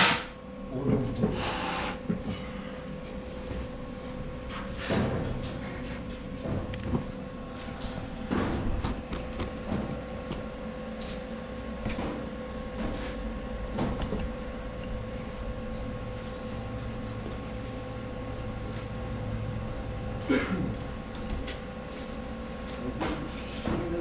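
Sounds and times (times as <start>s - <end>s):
workshop hum: 0.0s - 24.0s.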